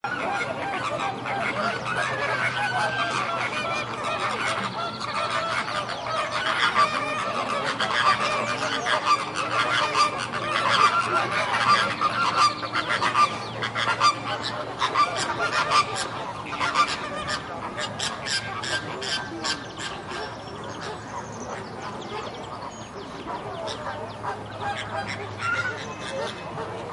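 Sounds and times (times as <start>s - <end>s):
flamingos honking: 0.1s - 26.9s.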